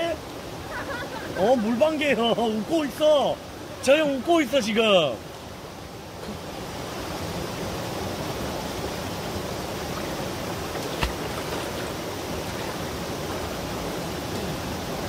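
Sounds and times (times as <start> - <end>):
fast-flowing stream rushing: 0.0 - 15.0.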